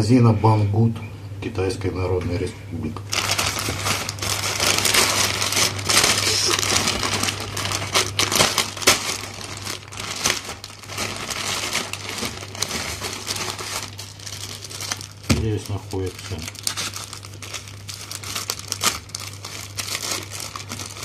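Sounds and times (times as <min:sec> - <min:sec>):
steady low hum: 0:00.0 - 0:21.0
plastic bag crinkling: 0:03.1 - 0:21.0.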